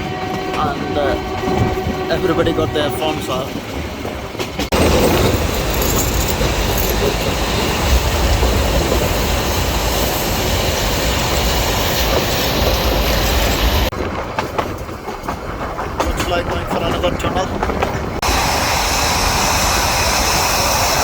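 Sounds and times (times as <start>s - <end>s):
train wheels rumbling and rattling: 0.0s - 21.0s.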